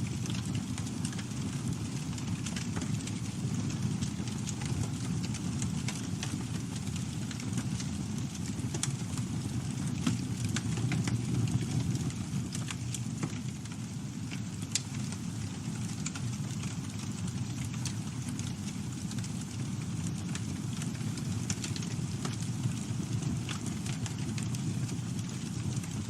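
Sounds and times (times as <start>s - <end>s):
campfire flames rumbling: 0.0s - 26.0s
wood crackling and popping: 0.0s - 26.0s.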